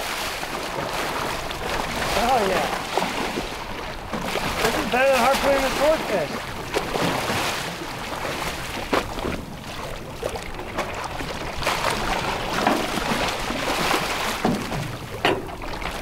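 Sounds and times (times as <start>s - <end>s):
boat noise: 0.0s - 16.0s
fish splashing in sea water: 0.0s - 16.0s
wind: 0.0s - 16.0s.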